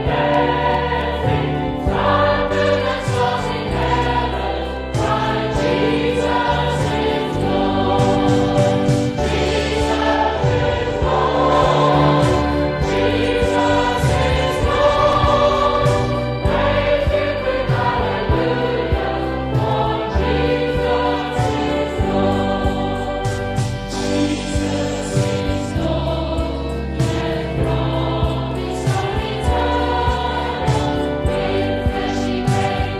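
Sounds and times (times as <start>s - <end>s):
choir singing a hymn: 0.0s - 32.9s.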